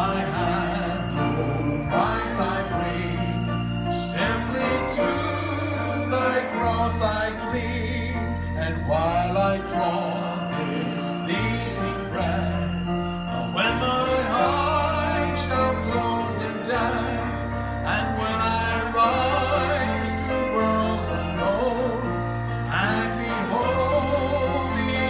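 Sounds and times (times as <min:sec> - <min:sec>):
instrumental bass accompaniment: 0:00.0 - 0:25.0
man singing a hymn: 0:00.0 - 0:25.0.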